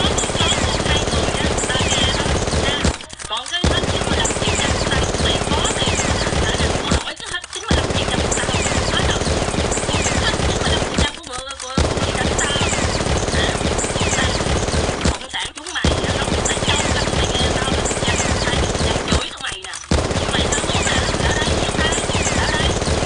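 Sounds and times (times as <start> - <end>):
rapid automatic gunfire: 0.0 - 23.0.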